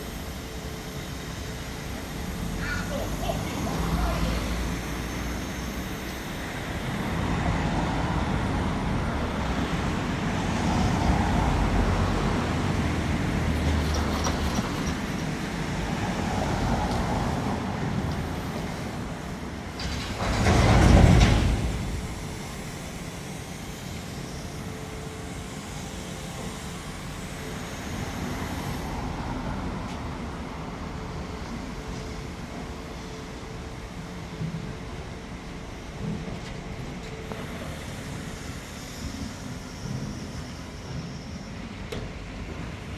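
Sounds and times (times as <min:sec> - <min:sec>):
traffic engine rumble: 0:01.9 - 0:41.0.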